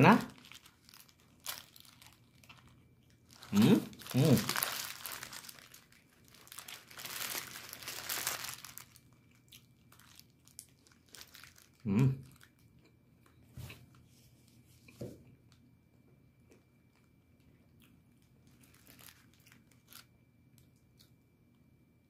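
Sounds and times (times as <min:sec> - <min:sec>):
chewing and crunching food: 0:00.1 - 0:21.6.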